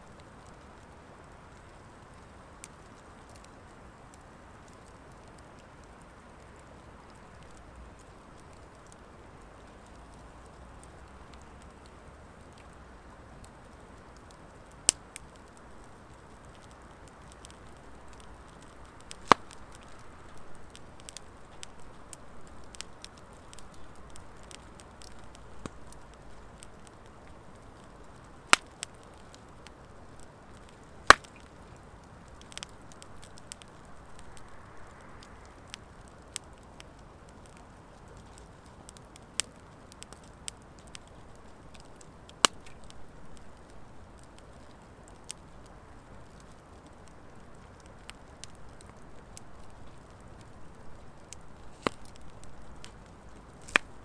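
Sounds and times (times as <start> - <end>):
fire crackling pops: 0.0 - 54.0
hiss of flames: 9.8 - 54.0.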